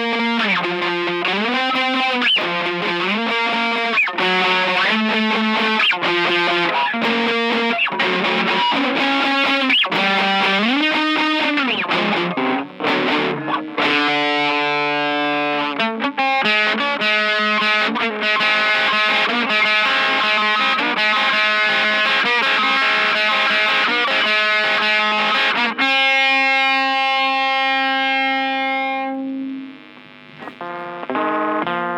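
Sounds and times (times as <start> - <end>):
distorted electric guitar: 0.0 - 31.9.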